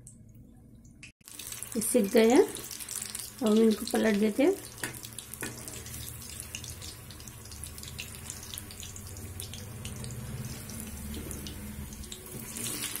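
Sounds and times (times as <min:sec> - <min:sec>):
deep-frying sizzle and pops: 0:00.8 - 0:13.0.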